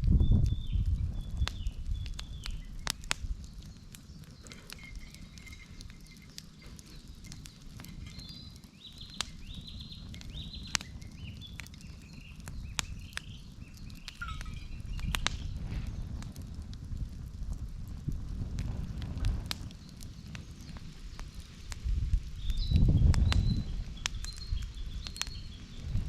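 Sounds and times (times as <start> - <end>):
campfire crackling and popping: 0.0 - 26.0
low rumble of flames: 0.0 - 26.0.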